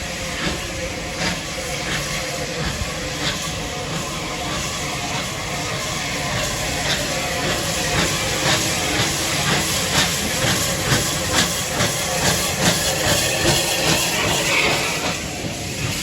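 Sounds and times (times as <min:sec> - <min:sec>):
steam hissing: 0:00.0 - 0:16.0
steam locomotive exhaust beats: 0:00.0 - 0:16.0.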